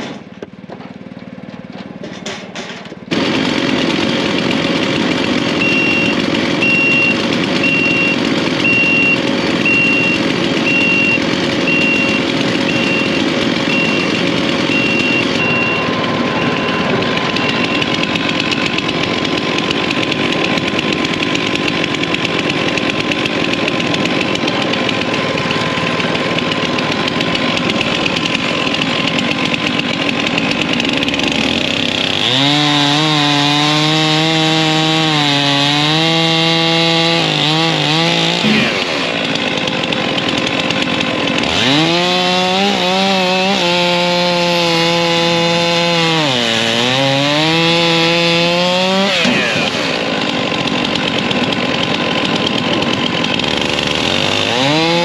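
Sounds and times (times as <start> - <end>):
chainsaw cutting logs: 0.0 - 55.0
steady machinery noise: 0.0 - 55.0.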